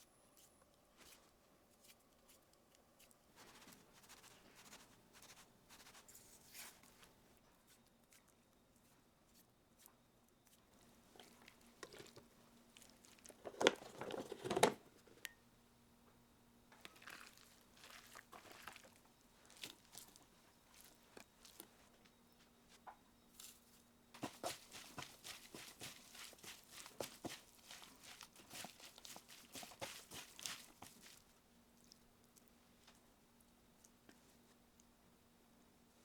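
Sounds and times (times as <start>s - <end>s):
faint steady hum: 0.0s - 36.0s
food crunching and rustling: 0.4s - 15.2s, 16.7s - 35.0s.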